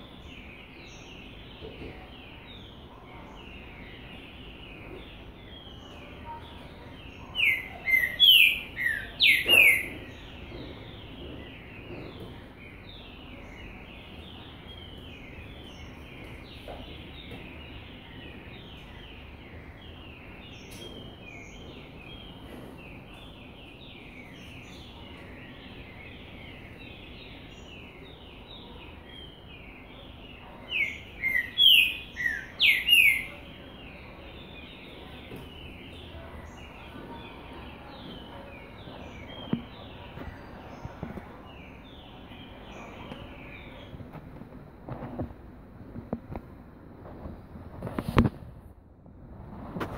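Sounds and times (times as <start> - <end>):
chatter of bird chirps: 0.1 - 44.0.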